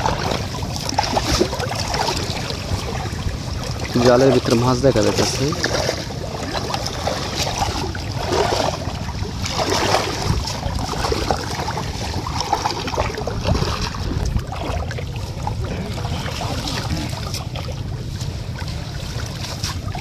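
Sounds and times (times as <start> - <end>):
steady low rumble: 0.0 - 20.0
water splashing and sloshing: 0.0 - 20.0.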